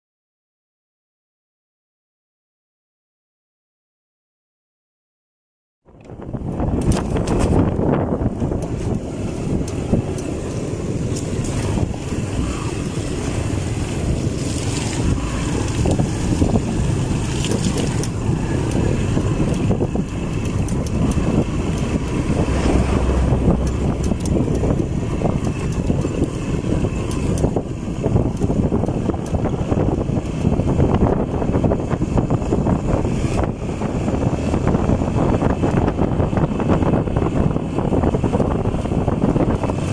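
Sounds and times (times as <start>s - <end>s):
road noise: 5.9s - 39.9s
rumbling wind: 5.9s - 39.9s
motorcycle engine running: 6.0s - 39.9s.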